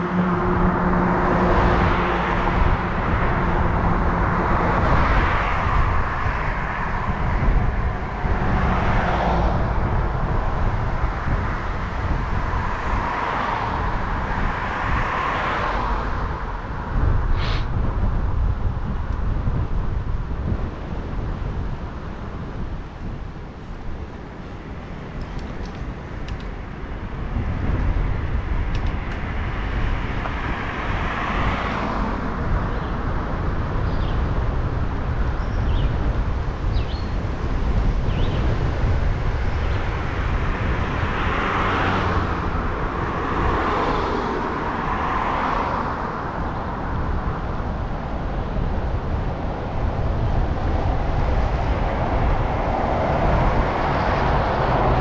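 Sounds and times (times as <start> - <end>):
road traffic passing: 0.0 - 55.0
wind rumbling on microphone: 0.0 - 55.0.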